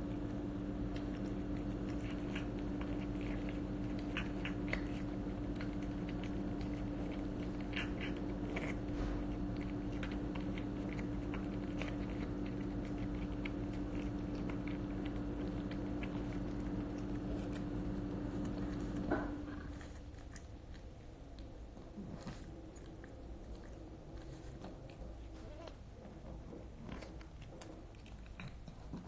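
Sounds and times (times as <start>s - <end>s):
cat chewing and lapping: 0.0s - 29.0s
low hum: 0.0s - 29.0s.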